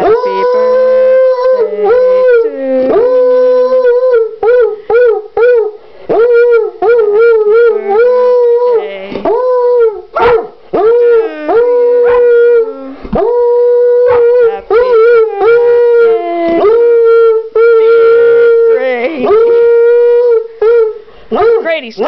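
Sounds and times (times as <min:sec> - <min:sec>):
dog howling: 0:00.0 - 0:21.8.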